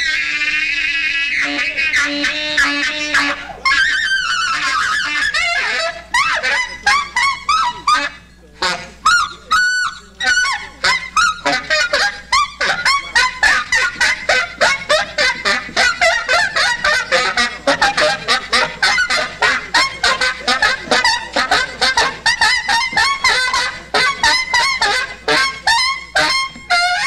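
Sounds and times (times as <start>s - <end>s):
chorus of honking calls: 0.0s - 27.0s.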